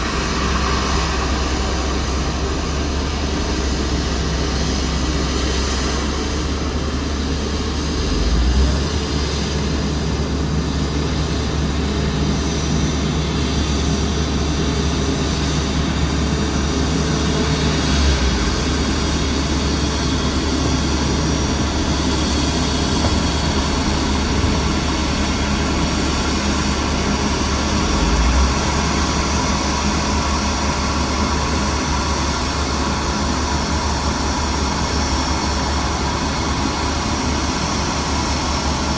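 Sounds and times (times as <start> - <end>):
jet airliner rumble: 0.0 - 38.9.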